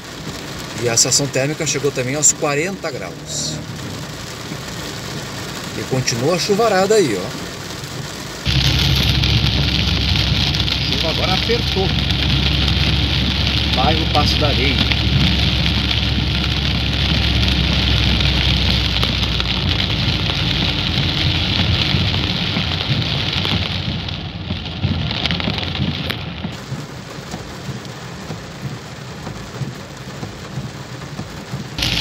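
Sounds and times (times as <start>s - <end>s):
car rumbling on wet road: 0.0s - 32.0s
heavy rain on car roof: 0.0s - 32.0s.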